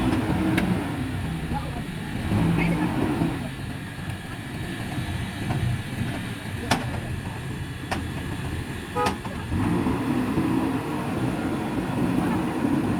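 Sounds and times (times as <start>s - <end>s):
diesel engine rumbling: 0.0s - 12.9s.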